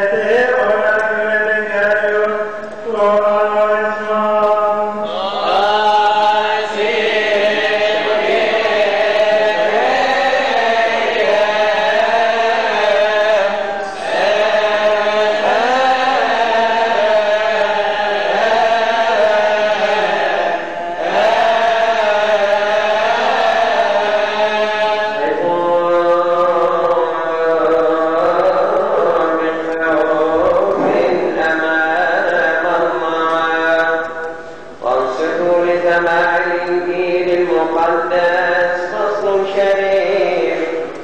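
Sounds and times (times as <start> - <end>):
man chanting: 0.0 - 40.9.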